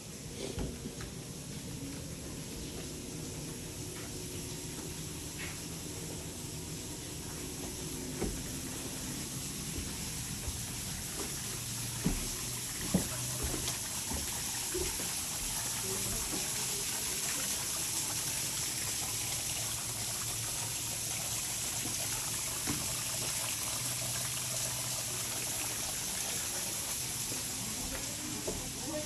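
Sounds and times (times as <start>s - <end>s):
hose water splashing into tub: 0.0s - 29.0s.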